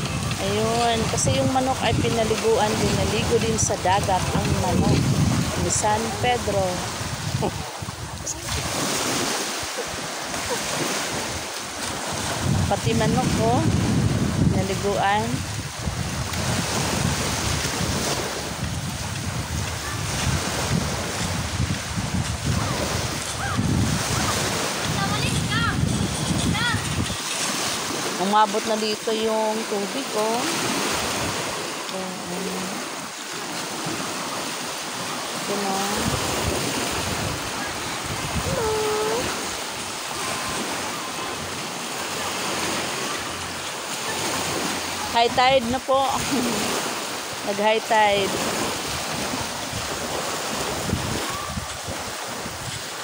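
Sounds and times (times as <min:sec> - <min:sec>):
small waves washing: 0:00.0 - 0:53.0
wind buffeting microphone: 0:00.0 - 0:53.0.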